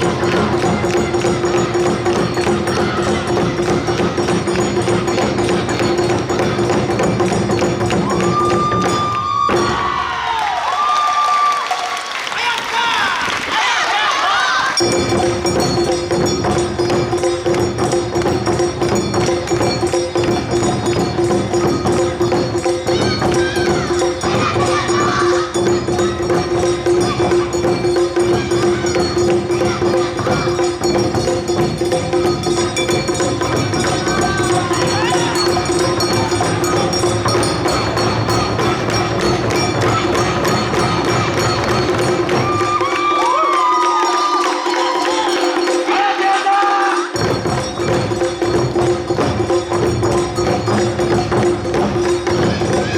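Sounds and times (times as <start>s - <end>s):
drums: 0.0s - 11.7s, 12.6s - 52.9s.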